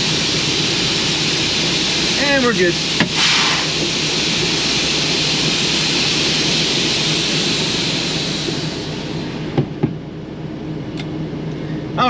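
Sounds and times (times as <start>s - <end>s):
loud air hiss: 0.0s - 9.8s
diesel engine idling: 0.0s - 12.0s.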